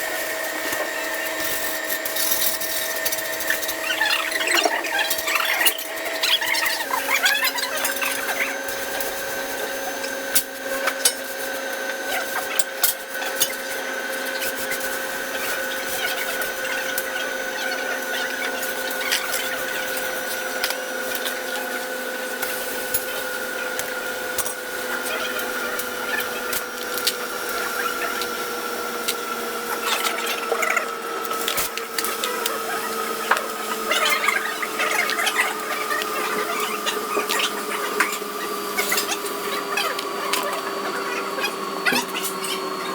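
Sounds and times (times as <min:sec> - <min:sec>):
workshop machine whining: 0:00.0 - 0:42.9.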